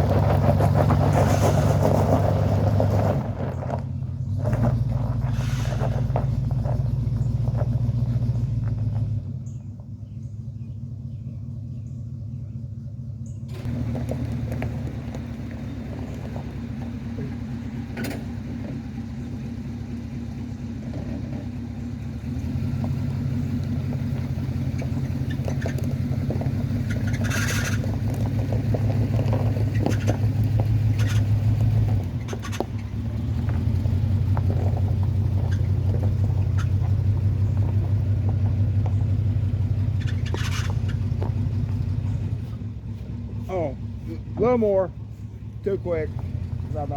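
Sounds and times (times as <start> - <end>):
pickup truck engine droning: 0.0 - 46.9.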